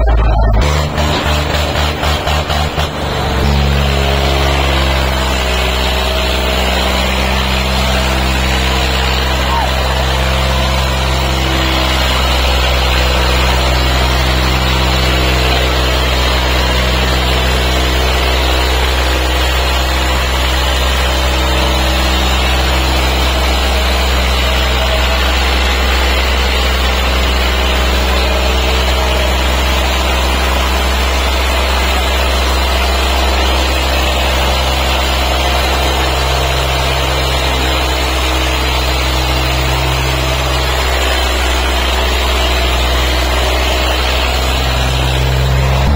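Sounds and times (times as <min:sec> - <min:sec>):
diesel tractor engine under load: 0:00.0 - 0:45.9.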